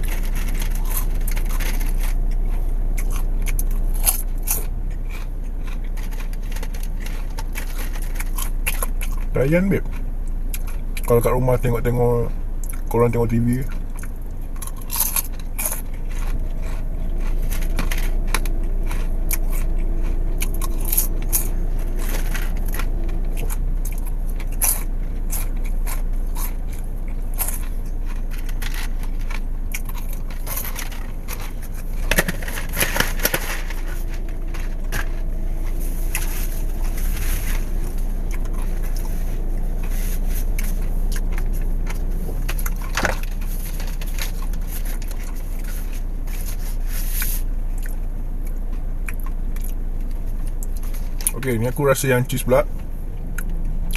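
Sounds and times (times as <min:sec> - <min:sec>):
chewing popcorn: 0:00.0 - 0:53.9
low car cabin hum: 0:00.0 - 0:53.9.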